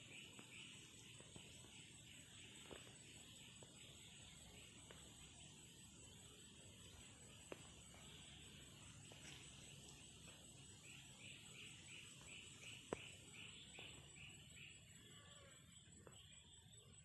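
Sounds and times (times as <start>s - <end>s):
thin steady high tone: 0.0s - 17.0s.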